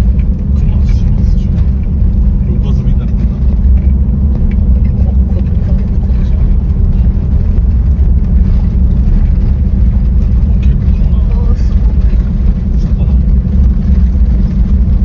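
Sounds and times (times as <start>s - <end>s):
vehicle interior rumble: 0.0s - 15.0s.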